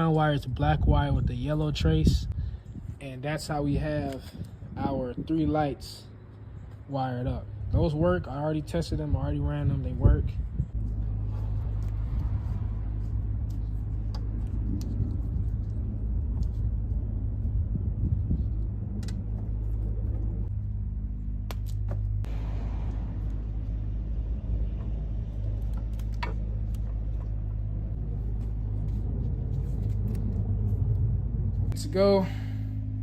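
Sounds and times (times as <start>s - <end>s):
low mechanical hum and rumble: 0.0s - 33.0s.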